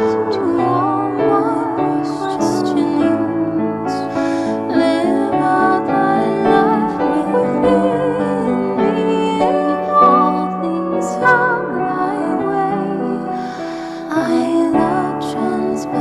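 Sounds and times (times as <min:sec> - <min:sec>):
piano accompaniment: 0:00.0 - 0:16.0.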